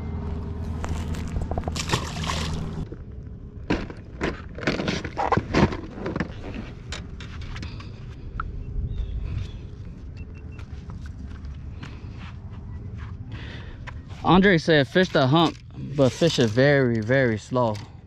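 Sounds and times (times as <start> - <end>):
boat motor humming: 0.0 - 16.3.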